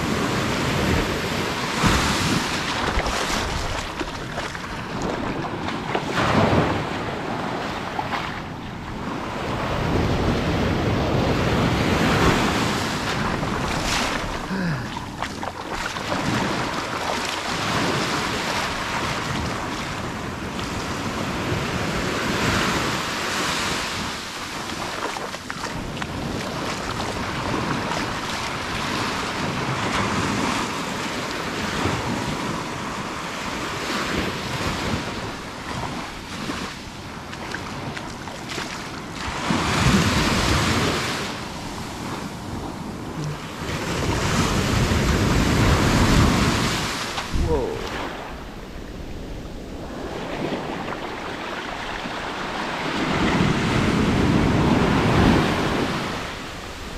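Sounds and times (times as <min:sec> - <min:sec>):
wind buffeting microphone: 0:00.0 - 0:23.2, 0:23.9 - 0:56.9
small waves breaking on sand: 0:00.0 - 0:56.9.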